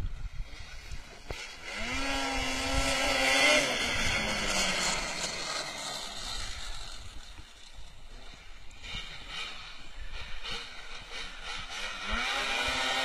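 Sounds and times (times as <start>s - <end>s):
snowmobile engine passing: 0.3s - 13.0s.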